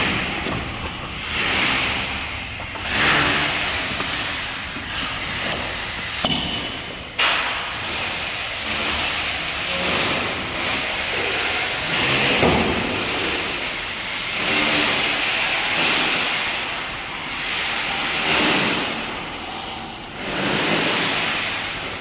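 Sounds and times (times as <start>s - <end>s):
steady work-site background noise: 0.0s - 22.0s.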